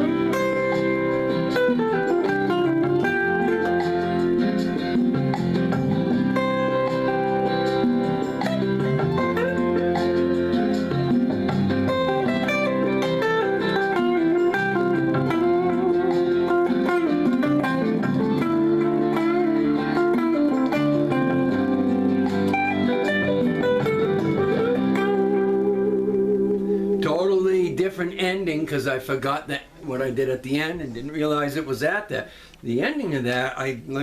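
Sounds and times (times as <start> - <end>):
guitar playing a melody: 0.0 - 28.2
recorded backing track: 0.0 - 34.0.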